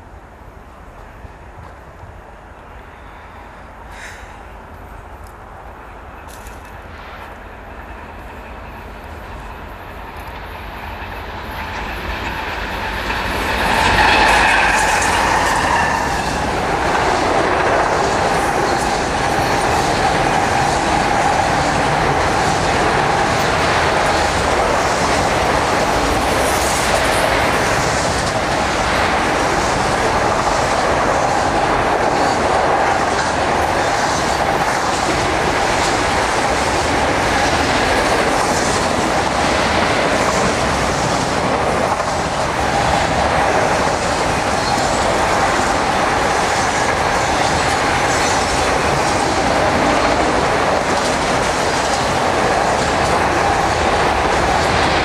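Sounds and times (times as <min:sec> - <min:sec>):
diesel locomotives passing: 0:00.0 - 0:55.0
wheels clickety-clack on rails: 0:06.0 - 0:55.0.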